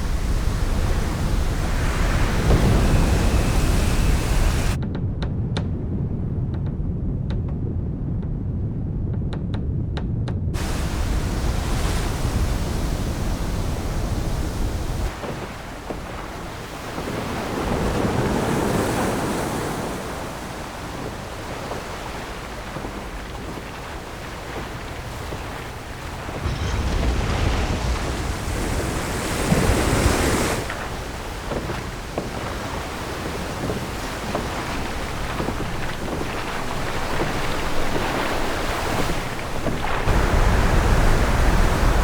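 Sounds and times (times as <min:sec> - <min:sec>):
ocean waves crashing: 0:00.0 - 0:04.8, 0:10.6 - 0:42.0
deep rumble: 0:00.0 - 0:15.1, 0:22.5 - 0:42.0
wind: 0:00.0 - 0:42.0.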